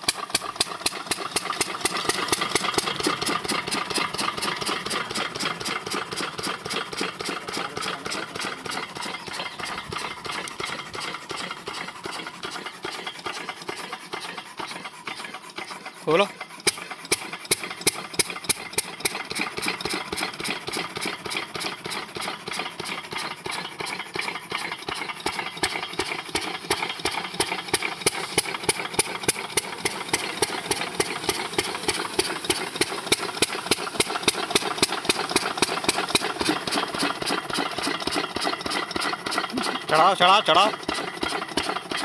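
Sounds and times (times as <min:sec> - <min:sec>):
diesel engine knocking: 0:00.0 - 0:42.0.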